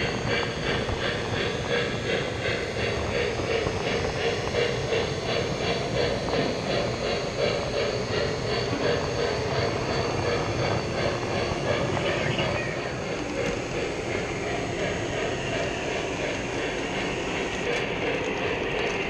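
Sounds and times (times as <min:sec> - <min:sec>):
model train hum: 0:00.0 - 0:19.0
rhythmic hissing chuffs: 0:00.0 - 0:19.0.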